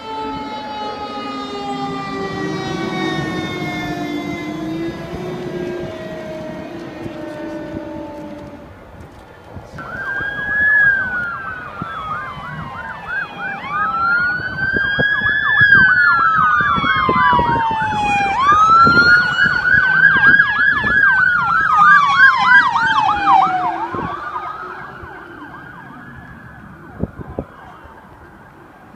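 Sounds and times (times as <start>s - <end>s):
siren yelping: 0.0s - 9.0s, 9.8s - 28.9s
siren wailing: 0.0s - 28.9s.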